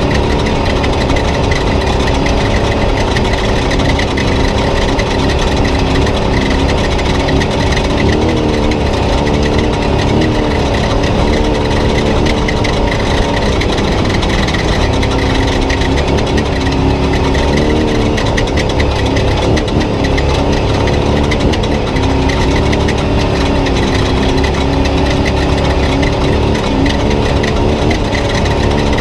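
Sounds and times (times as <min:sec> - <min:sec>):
truck engine running hard: 0:00.0 - 0:29.0.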